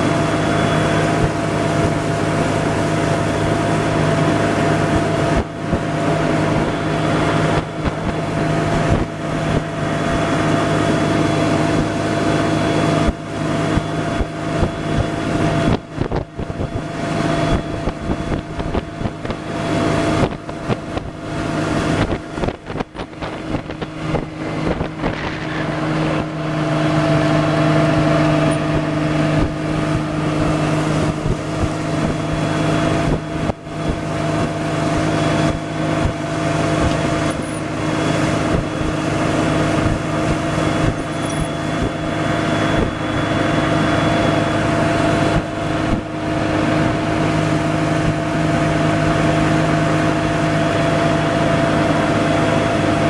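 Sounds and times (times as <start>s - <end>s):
motorboat engine running: 0.0s - 53.0s
wind and water noise: 0.0s - 53.0s.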